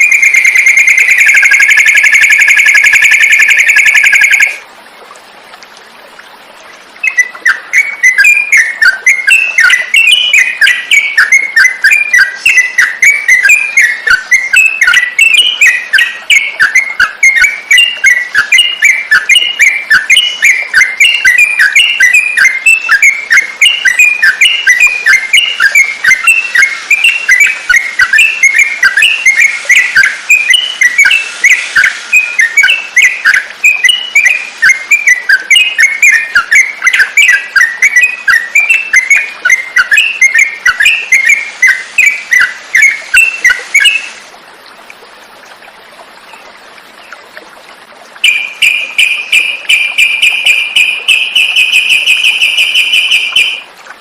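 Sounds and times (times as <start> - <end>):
bubbly bird chirping: 0.0 - 4.6, 7.0 - 44.2, 48.2 - 53.7.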